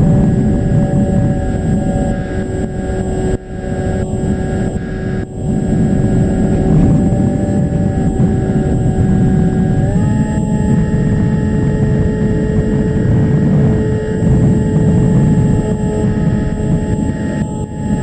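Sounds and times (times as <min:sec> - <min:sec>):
electric motor and propeller whining: 0:00.0 - 0:18.0
wind rushing over microphone: 0:00.0 - 0:18.0.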